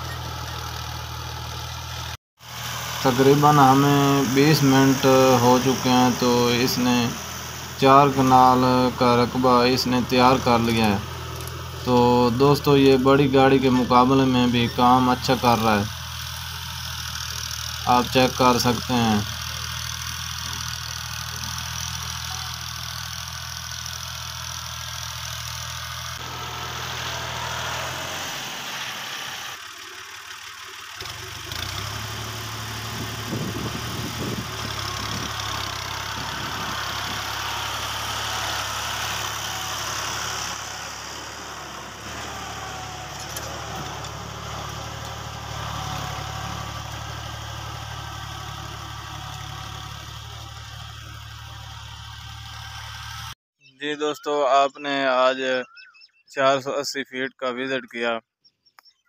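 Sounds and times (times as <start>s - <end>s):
tractor diesel engine running: 0.0s - 53.4s.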